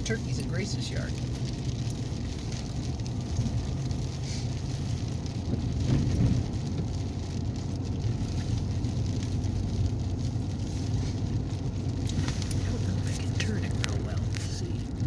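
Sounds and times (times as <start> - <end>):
frozen mix pattering on car body: 0.0 - 15.0
vehicle driving on snowy road: 0.0 - 15.0.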